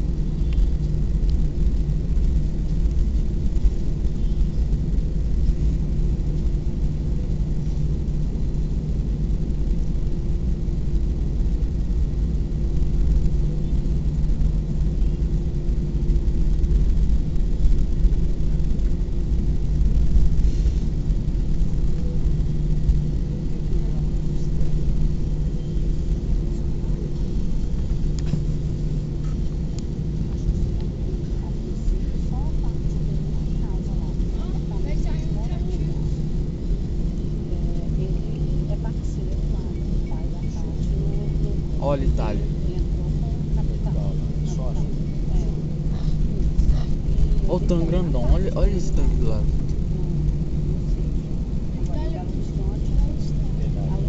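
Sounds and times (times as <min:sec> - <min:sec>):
aircraft cabin rumble: 0:00.0 - 0:54.0
jet engines idling hum: 0:00.0 - 0:54.0.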